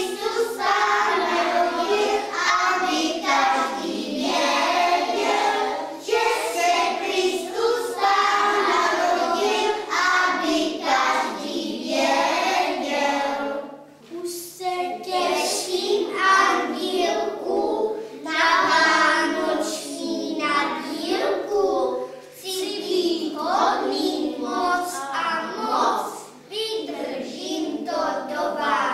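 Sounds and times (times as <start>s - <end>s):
children singing in chorus: 0.0s - 13.9s, 14.9s - 26.3s.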